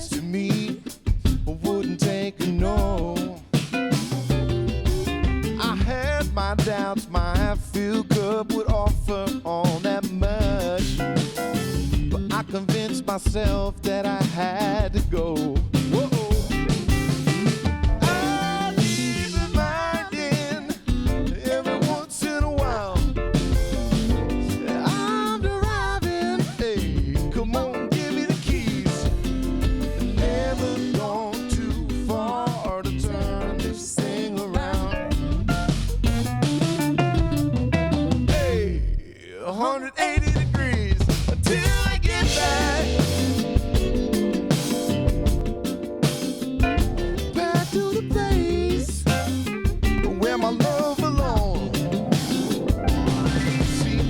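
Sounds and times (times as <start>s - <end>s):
band with drums guitar and bass: 0.0s - 39.0s, 40.0s - 54.0s
soul funk song with singing: 0.0s - 54.0s.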